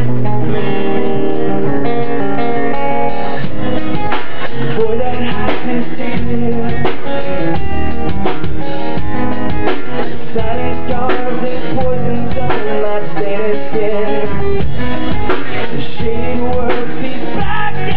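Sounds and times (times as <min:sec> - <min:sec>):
acoustic rock band guitars: 0:00.0 - 0:17.9.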